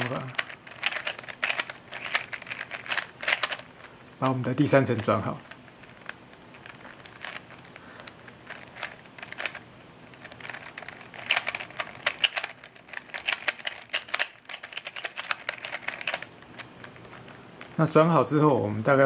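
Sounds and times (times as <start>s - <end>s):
puzzle cube clicking: 0.0s - 17.8s.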